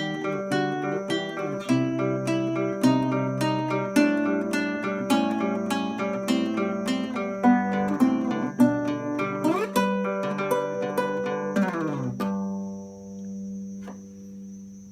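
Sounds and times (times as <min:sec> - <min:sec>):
fingerstyle guitar: 0:00.0 - 0:14.5.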